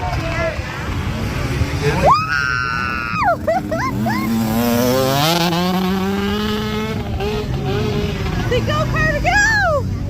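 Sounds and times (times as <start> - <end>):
motocross bike engine approaching: 0.0 - 10.0.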